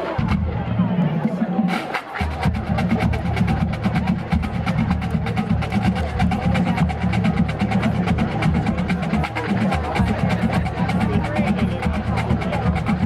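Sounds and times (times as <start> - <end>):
bass drums: 0.2 - 13.0.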